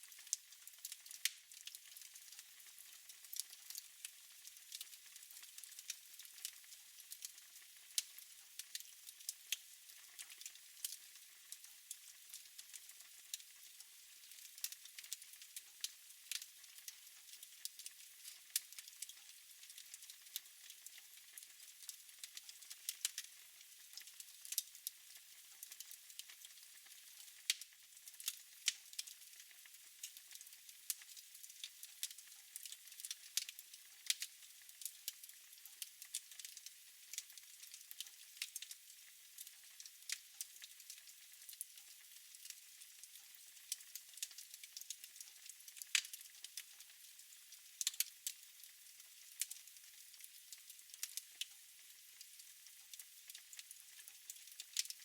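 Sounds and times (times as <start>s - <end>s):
fire crackling in fireplace: 0.0s - 55.0s.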